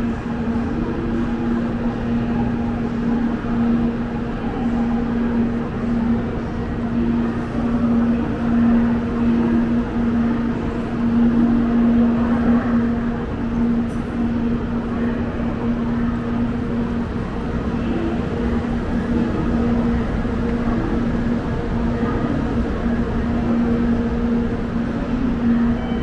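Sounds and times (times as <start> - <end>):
train rolling with constant hum: 0.0 - 26.0.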